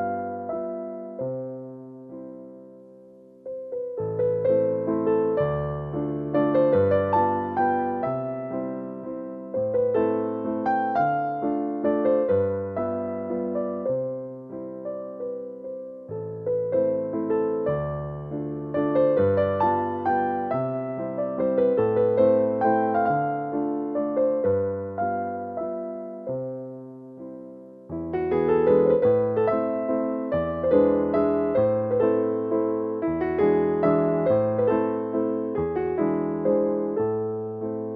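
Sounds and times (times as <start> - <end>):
electric piano melody: 0.0 - 37.9.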